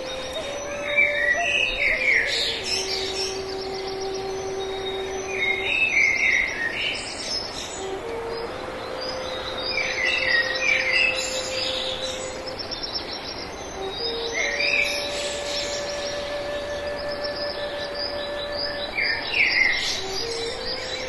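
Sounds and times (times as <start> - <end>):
birds chirping: 0.0 - 21.0
long steady held note: 0.0 - 21.0.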